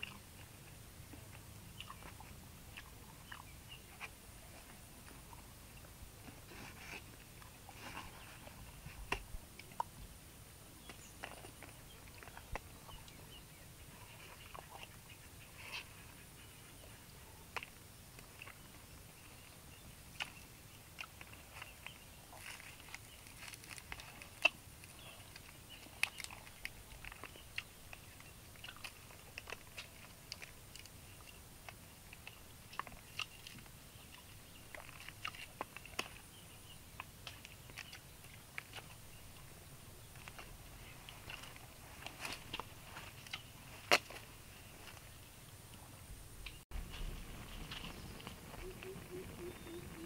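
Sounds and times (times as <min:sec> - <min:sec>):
chewing: 0:00.0 - 0:10.0, 0:10.8 - 0:50.0.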